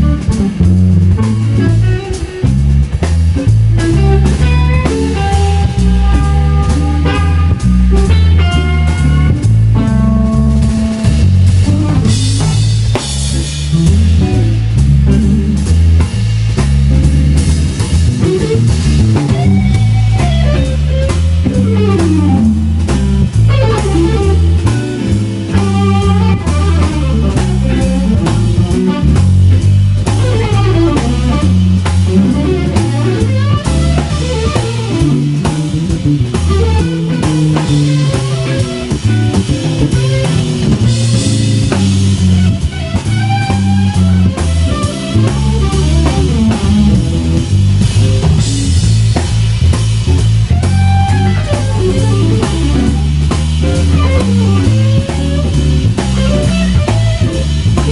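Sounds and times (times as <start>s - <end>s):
drum kit: 0.0s - 57.9s
electric bass: 0.0s - 57.9s
electric guitar lead: 0.0s - 57.9s.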